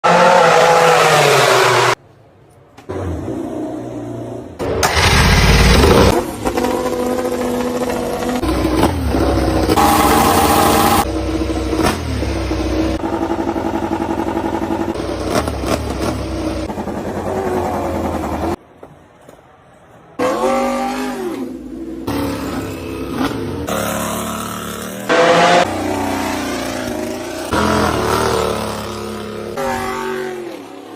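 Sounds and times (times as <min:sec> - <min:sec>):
racing motorcycle engines revving: 0:00.0 - 0:02.0, 0:02.9 - 0:18.6, 0:20.2 - 0:30.9.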